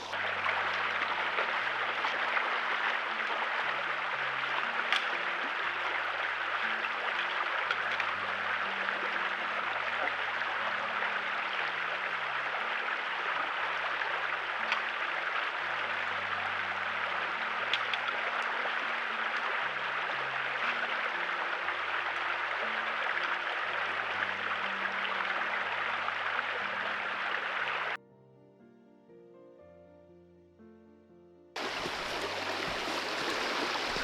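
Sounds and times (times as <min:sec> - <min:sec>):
stream water flowing: 0:00.0 - 0:28.0, 0:31.6 - 0:34.0
soft background music: 0:00.0 - 0:34.0.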